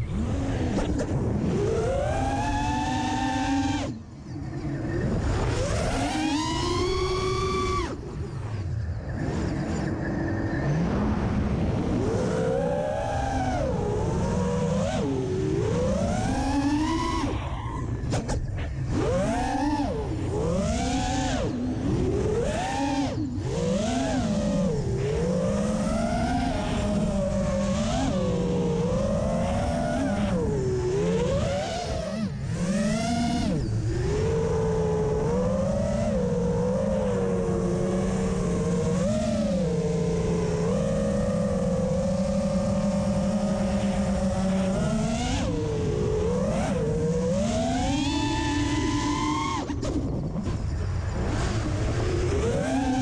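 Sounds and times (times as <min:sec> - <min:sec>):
drone motors whining: 0:00.0 - 0:53.0.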